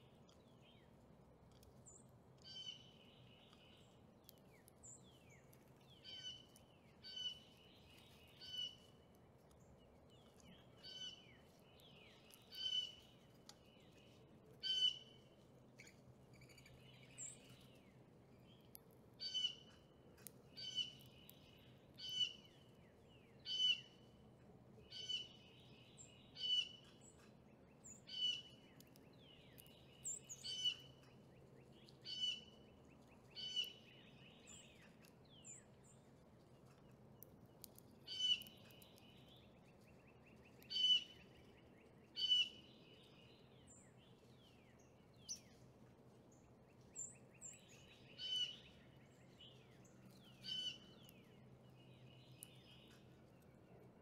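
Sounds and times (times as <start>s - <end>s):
bird chirping: 0.0s - 24.2s, 24.8s - 45.7s, 46.3s - 53.8s
faint steady hum: 0.0s - 54.0s.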